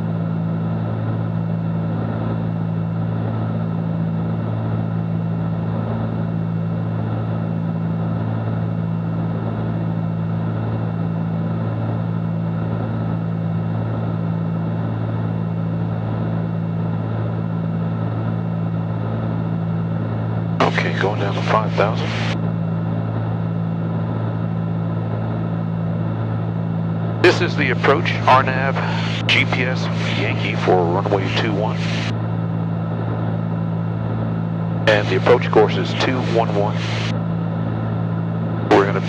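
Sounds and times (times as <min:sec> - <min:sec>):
twin propeller engines droning: 0:00.0 - 0:39.0.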